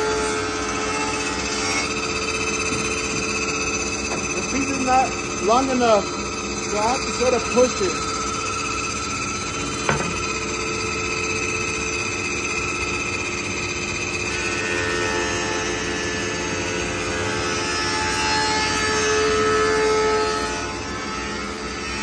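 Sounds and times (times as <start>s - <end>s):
planer cutting wood: 0.0s - 22.0s.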